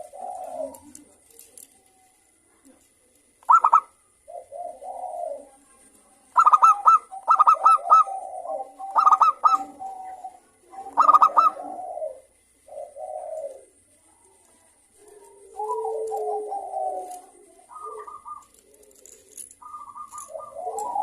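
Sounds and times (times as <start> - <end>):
doves cooing: 0.0 - 21.0.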